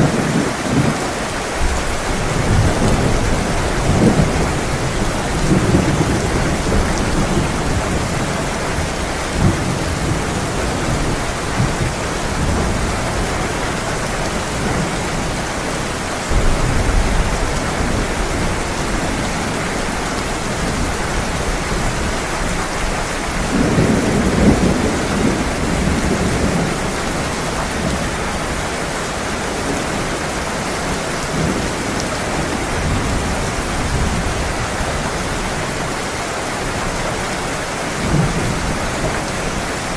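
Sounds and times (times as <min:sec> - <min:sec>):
thunder rumbling: 0:00.0 - 0:36.0
heavy rain pouring: 0:00.0 - 0:39.9.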